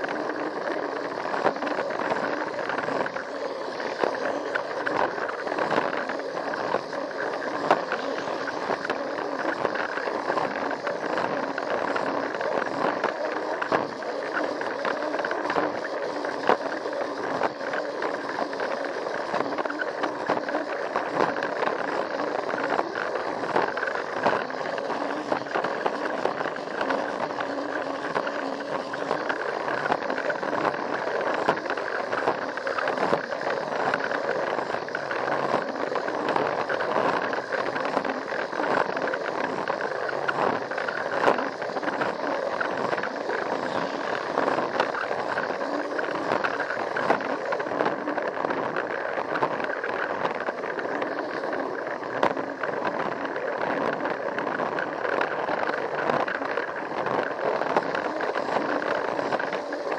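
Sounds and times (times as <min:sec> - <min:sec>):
toy train motor and gears: 0:00.0 - 0:59.9.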